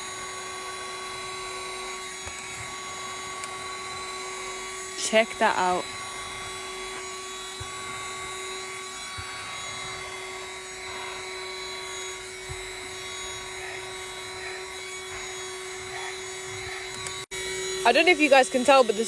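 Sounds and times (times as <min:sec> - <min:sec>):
car vacuum running: 0:00.0 - 0:19.0.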